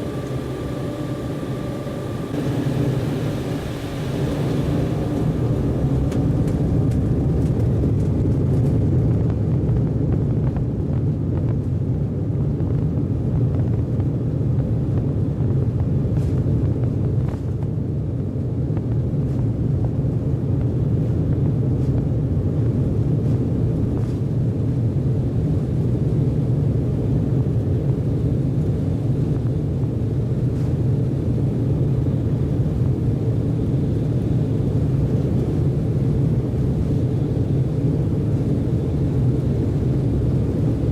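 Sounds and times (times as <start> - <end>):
jet engine and airflow in cabin: 0.0 - 40.9.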